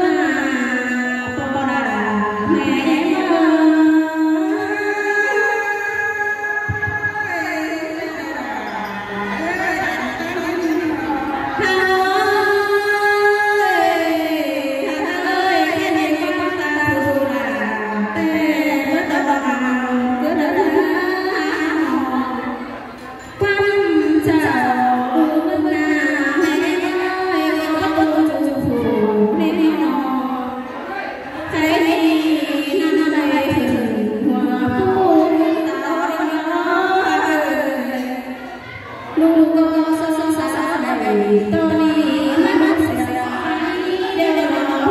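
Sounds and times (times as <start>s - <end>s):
woman singing into a microphone: 0.0s - 30.7s, 31.4s - 38.5s, 39.2s - 44.9s.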